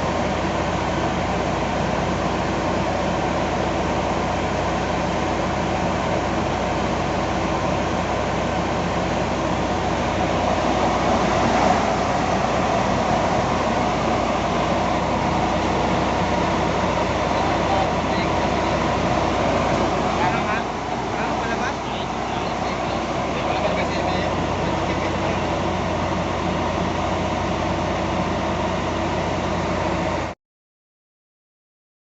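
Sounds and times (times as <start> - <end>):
low electrical hum: 0.0 - 30.3
fan air rushing: 0.0 - 30.4.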